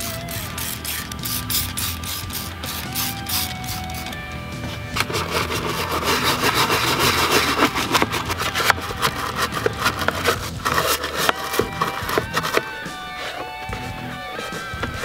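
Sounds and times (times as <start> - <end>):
brush scrubbing hard plastic: 0.0 - 15.0.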